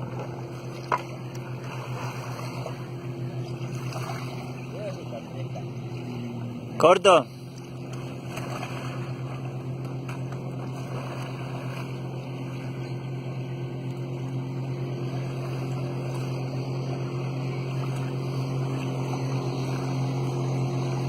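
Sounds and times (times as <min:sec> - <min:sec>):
steady engine hum: 0:00.0 - 0:21.0.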